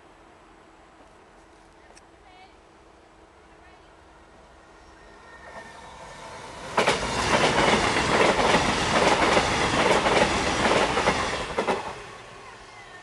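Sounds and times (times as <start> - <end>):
train passing: 2.1 - 13.0.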